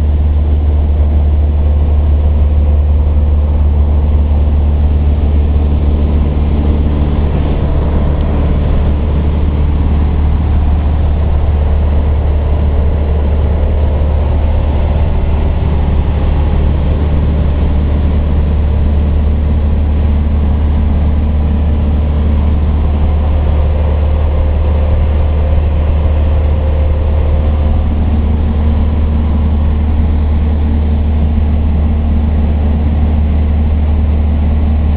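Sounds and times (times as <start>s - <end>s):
light aircraft engine drone: 0.0s - 34.9s.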